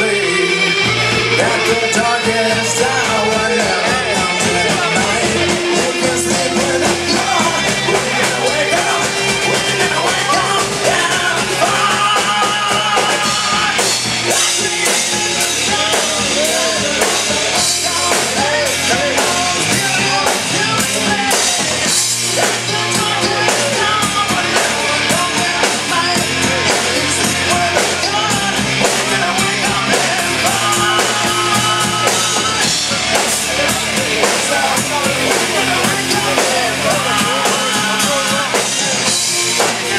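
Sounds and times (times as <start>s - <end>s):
loud rock music: 0.0s - 39.9s
person singing: 0.0s - 39.9s.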